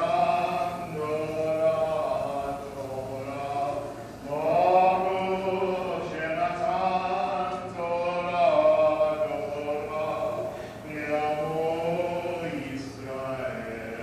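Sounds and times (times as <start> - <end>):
slow chant-like singing: 0.0 - 14.0.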